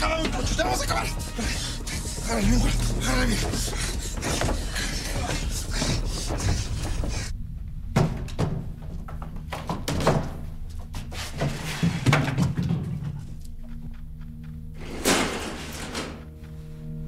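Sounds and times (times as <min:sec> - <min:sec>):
background music with low drone: 0:00.0 - 0:17.0.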